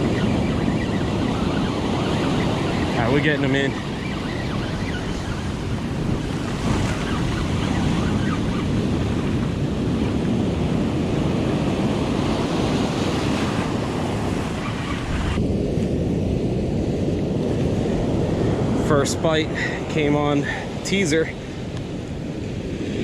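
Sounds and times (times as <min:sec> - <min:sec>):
surf waves breaking: 0:00.0 - 0:23.0
wind buffeting microphone: 0:00.0 - 0:23.0.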